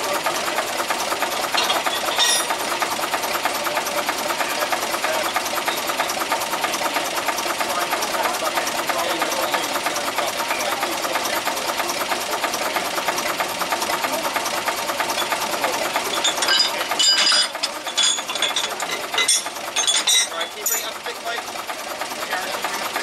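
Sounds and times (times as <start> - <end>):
diesel locomotive engine idling: 0.0 - 23.0.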